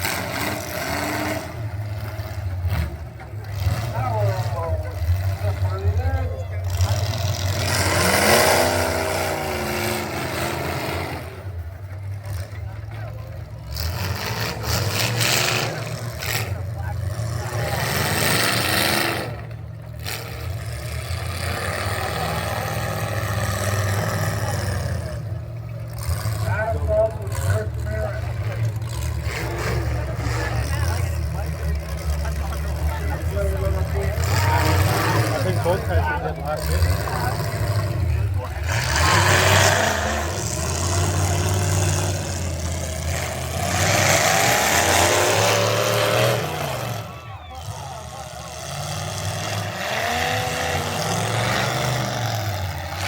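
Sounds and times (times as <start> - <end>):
truck engines revving: 0.0 - 53.0.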